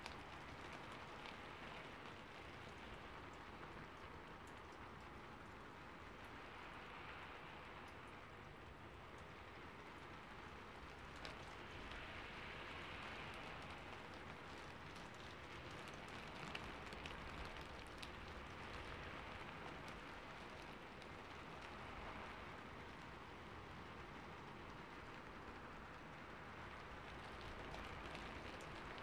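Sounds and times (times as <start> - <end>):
rain on a rooftop: 0.0 - 29.0
raindrops ticking: 0.0 - 29.0.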